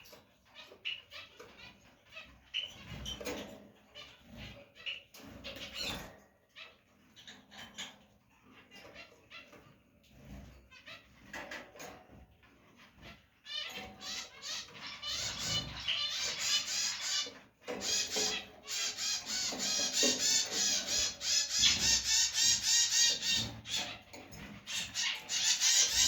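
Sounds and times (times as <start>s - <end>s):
canary chirping rapidly: 0.0s - 11.5s, 12.4s - 26.0s.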